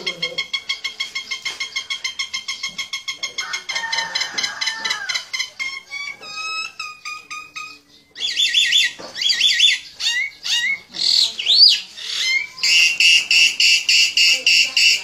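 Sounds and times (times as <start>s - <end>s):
myna bird chirping: 0.0s - 15.0s.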